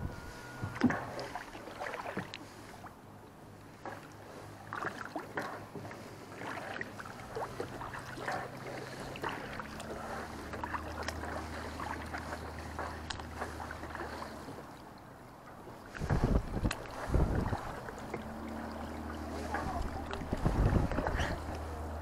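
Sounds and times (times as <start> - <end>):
paddle splashing in water: 0.0 - 22.0.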